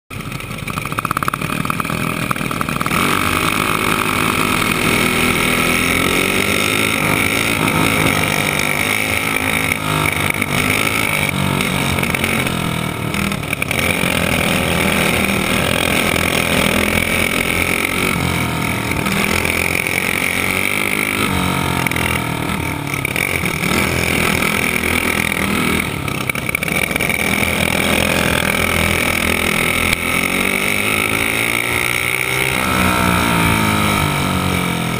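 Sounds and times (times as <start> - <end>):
kart engine revving: 0.1 - 34.9.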